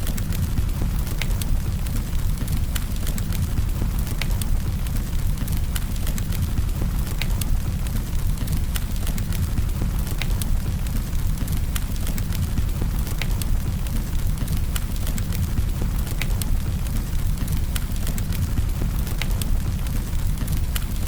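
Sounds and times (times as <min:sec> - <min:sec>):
burning wood crackling and popping: 0:00.0 - 0:21.0
campfire flames rumbling: 0:00.0 - 0:21.0.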